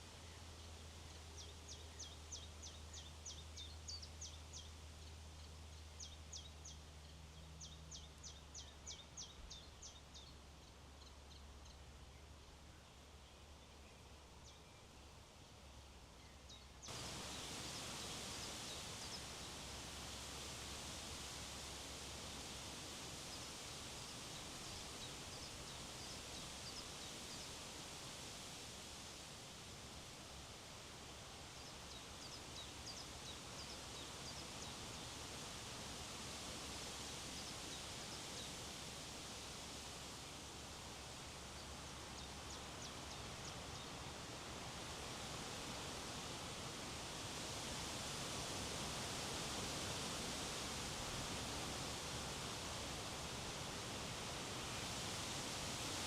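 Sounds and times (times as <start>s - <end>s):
wind rushing through trees: 0.0s - 56.0s.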